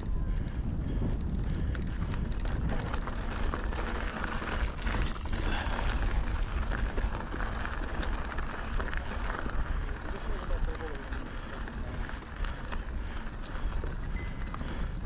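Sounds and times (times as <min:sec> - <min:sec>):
tyre and trail noise: 0:00.0 - 0:15.0
wind buffeting microphone: 0:00.0 - 0:15.0.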